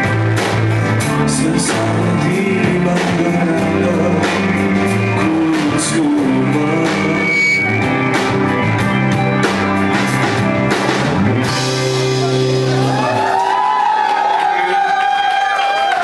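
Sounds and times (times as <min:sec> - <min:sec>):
live rock band playing: 0:00.0 - 0:15.4.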